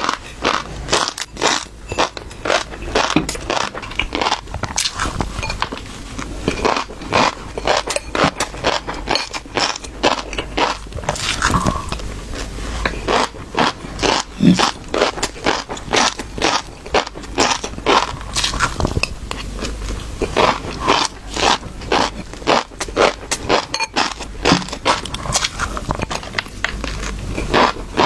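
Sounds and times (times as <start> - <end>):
fish roe clicking and scraping: 0.0 - 28.0.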